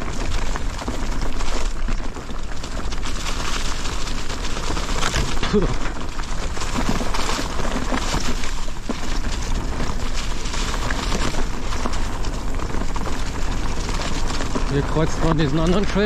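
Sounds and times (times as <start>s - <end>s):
bike knocking over bumps: 0.0s - 16.0s
tyres crackling over dry leaves: 0.0s - 16.0s.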